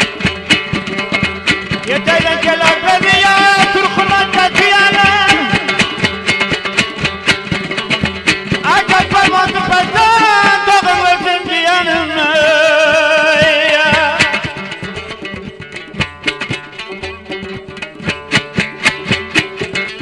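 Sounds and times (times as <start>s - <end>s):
strummed lutes: 0.0s - 20.0s.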